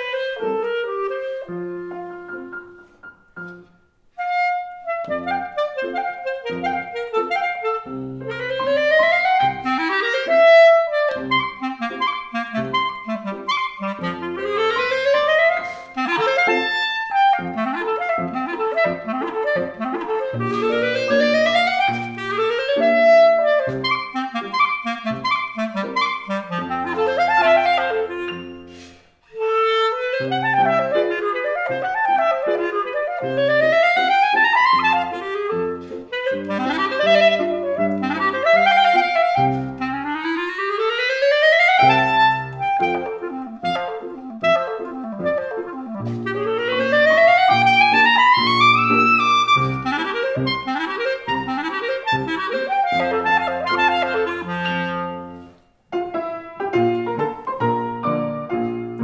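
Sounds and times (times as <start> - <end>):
clarinet: 0.0 - 59.0
grand piano: 0.0 - 59.0.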